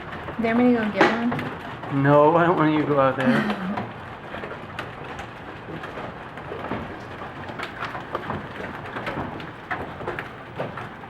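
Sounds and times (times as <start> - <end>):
hailstones pelting hard surfaces: 0.0 - 11.0.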